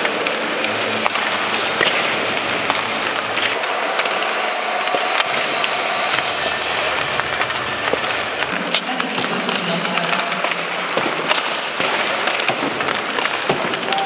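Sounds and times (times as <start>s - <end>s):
arena noise: 0.0s - 14.0s
pucks clacking on sticks: 0.0s - 14.0s
skates scraping ice: 0.0s - 14.0s.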